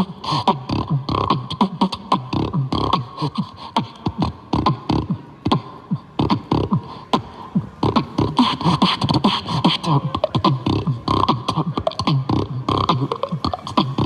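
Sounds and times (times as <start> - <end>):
vocal beatboxing: 0.0 - 14.0.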